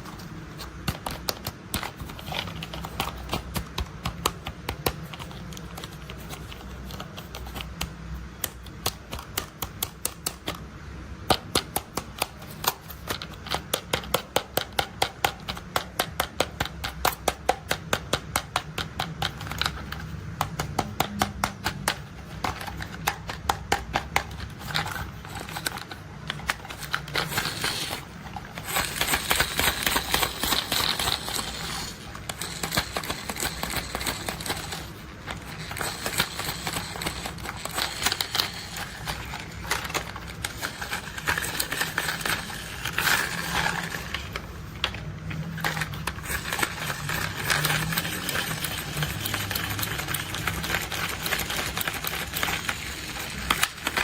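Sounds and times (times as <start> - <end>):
toy mechanism clicking: 0.0 - 10.7, 11.3 - 54.0.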